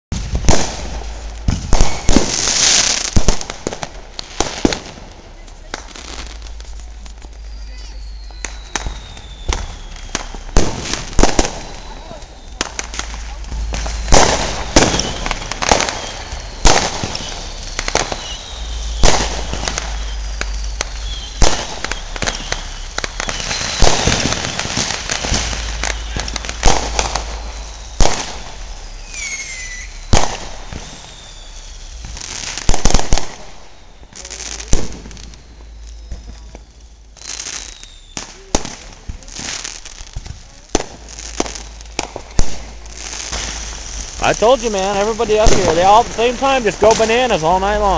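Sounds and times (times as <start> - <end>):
firecracker pops: 0.1 - 47.9
fireworks bangs: 0.1 - 47.9
fireworks whistles falling in pitch: 0.1 - 47.9.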